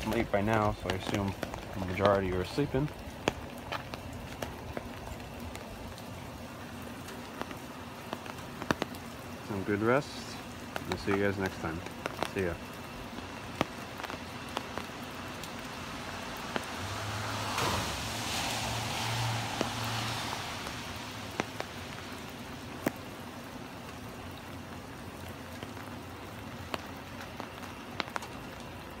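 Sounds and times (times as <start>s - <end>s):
water drip clicks: 0.0s - 9.7s, 10.4s - 29.0s
car passing on wet street: 0.0s - 29.0s
steady rain: 0.0s - 29.0s.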